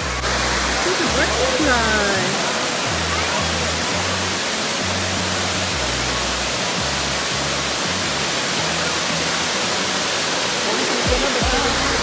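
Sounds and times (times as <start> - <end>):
low bass music: 0.0 - 10.4, 11.1 - 12.0
waterfall rushing over rocks: 0.0 - 12.0.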